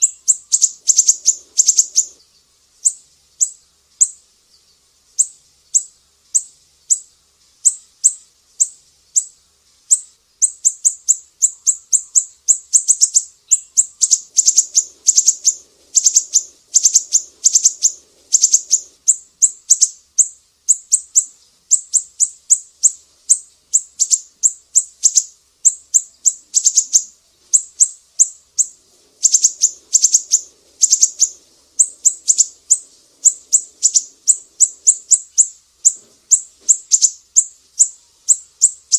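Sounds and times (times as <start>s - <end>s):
bird sharp high chirps: 0.0s - 38.9s.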